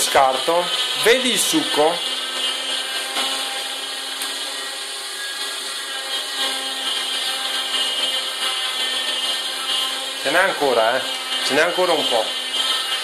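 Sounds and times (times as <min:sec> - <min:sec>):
juicer motor humming: 0:00.0 - 0:13.0.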